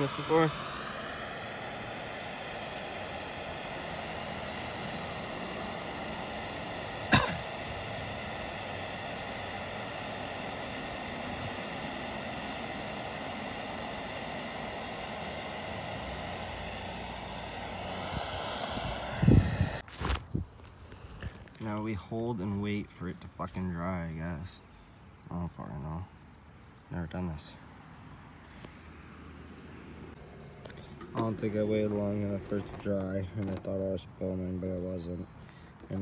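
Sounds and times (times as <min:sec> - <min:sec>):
steady hiss: 0:00.0 - 0:26.1, 0:30.8 - 0:36.0.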